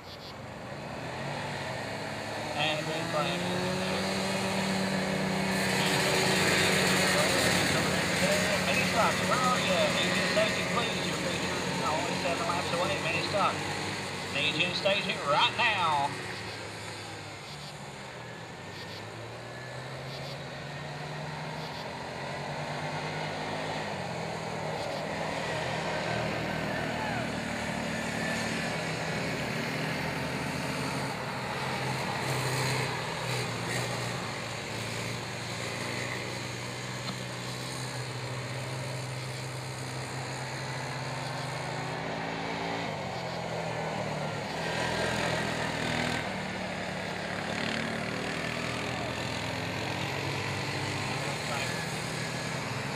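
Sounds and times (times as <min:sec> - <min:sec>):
atv engines running: 0:00.0 - 0:52.9.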